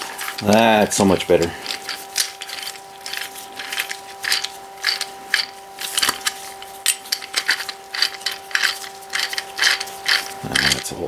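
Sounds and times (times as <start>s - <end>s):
lathe chuck metallic clicks: 0.0s - 11.0s.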